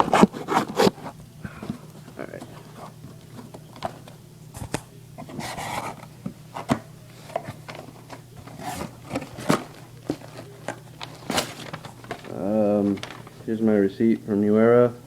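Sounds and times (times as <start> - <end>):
paper and cardboard rustling: 0.0 - 14.1.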